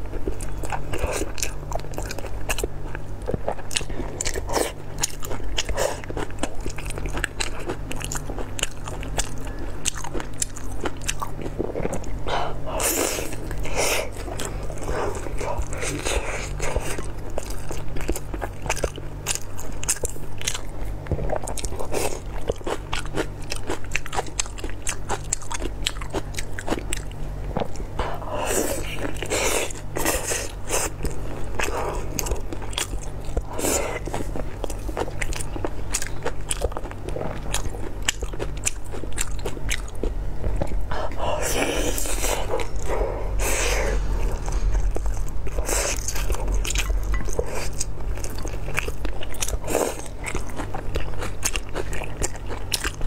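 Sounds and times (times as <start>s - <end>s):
biting and chewing: 0.0s - 53.0s
steady low hum: 0.0s - 53.0s.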